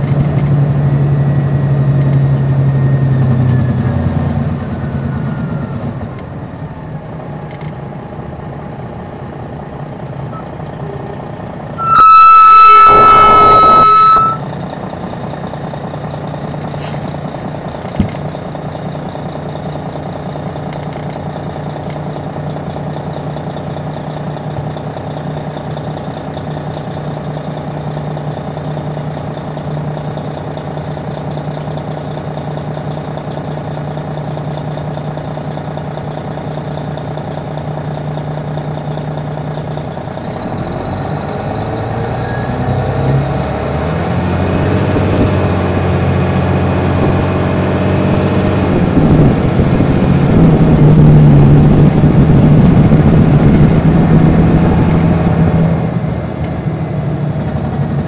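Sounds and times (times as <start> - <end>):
diesel bus engine running: 0.0 - 58.0.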